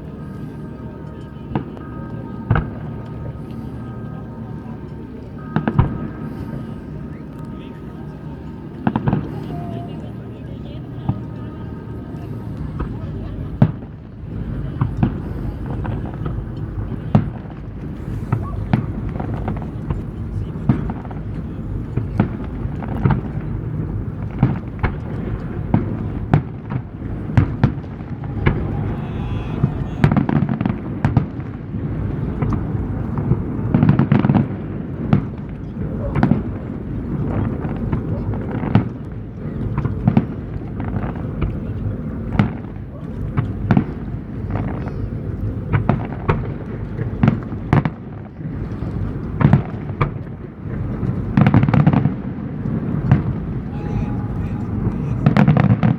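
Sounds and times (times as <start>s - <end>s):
low background rumble: 0.0s - 55.9s
fireworks bursting: 5.4s - 55.9s.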